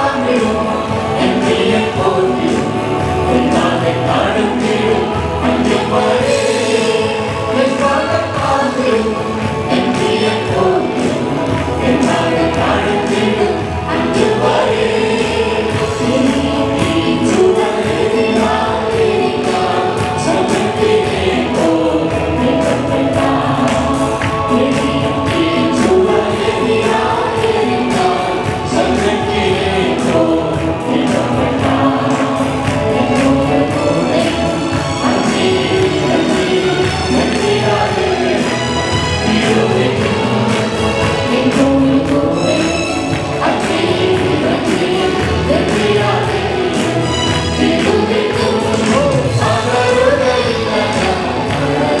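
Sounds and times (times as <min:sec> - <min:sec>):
group singing gospel: 0:00.0 - 0:52.0
instrumental backing with percussion: 0:00.0 - 0:52.0.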